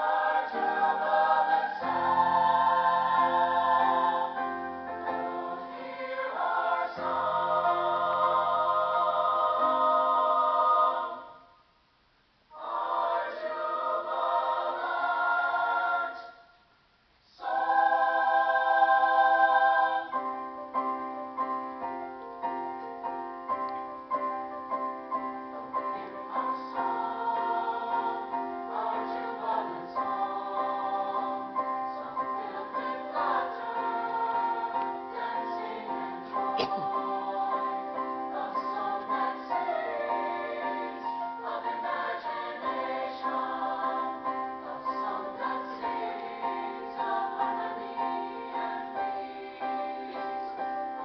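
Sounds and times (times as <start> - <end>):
choir singing: 0.0 - 11.6, 12.5 - 16.6, 17.3 - 51.0.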